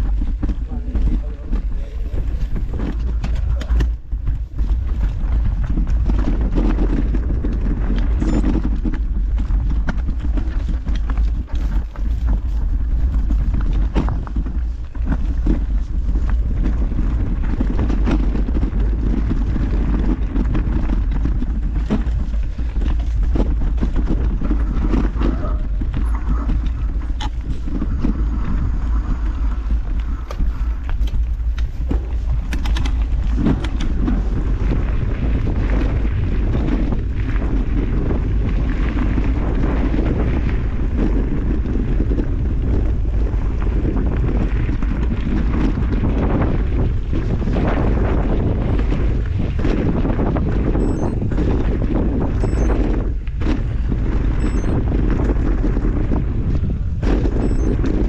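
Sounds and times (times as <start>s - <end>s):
bike clattering: 0.0s - 58.0s
bike tyres on rough trail: 0.0s - 58.0s
wind rumble on microphone: 0.0s - 58.0s.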